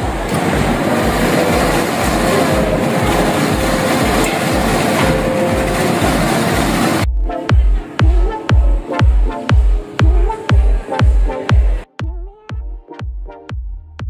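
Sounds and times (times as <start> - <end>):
loud dense rumbling noise: 0.0 - 11.8
electronic dance music: 0.0 - 14.0.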